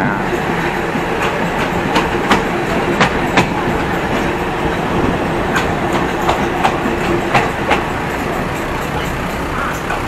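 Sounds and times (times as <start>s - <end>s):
train rolling rumble: 0.0s - 10.0s
train wheels clicking over rail joints: 0.2s - 10.0s.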